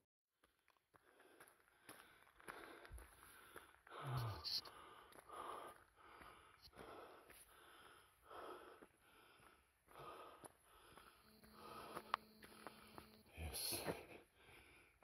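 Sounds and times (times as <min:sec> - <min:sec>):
heavy breathing: 0:01.0 - 0:15.0.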